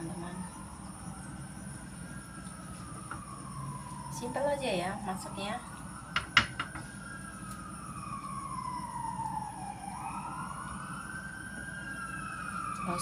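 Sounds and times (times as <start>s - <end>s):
siren wailing: 0.0s - 13.0s.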